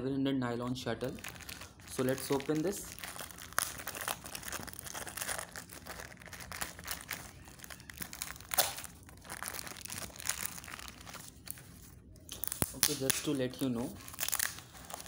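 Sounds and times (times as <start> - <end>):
plastic wrap crinkling: 1.0 - 15.0.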